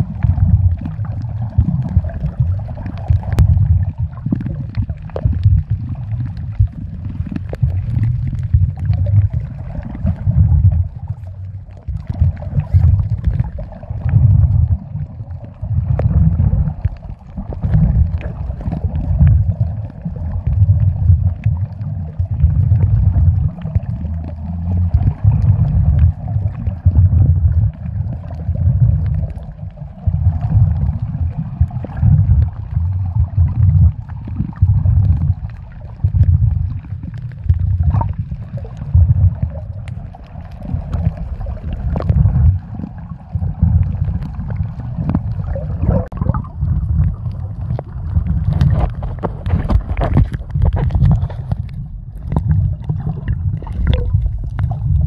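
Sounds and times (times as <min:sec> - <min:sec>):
underwater water rumble: 0:00.0 - 0:55.0.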